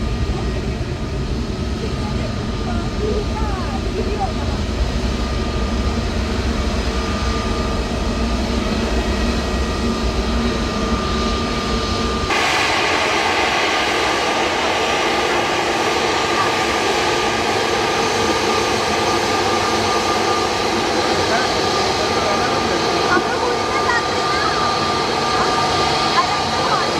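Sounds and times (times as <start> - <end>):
jet engine rumble with whine: 0.0 - 26.9.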